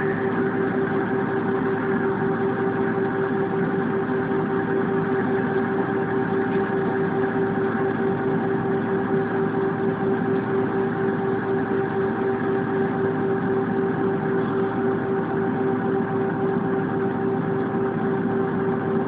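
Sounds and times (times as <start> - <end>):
jet engine drone in cabin: 0.0 - 19.0.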